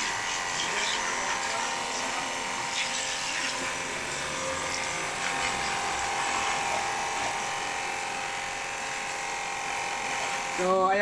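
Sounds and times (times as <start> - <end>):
pressure washer motor humming: 0.0 - 11.0
water jet hissing: 0.0 - 11.0.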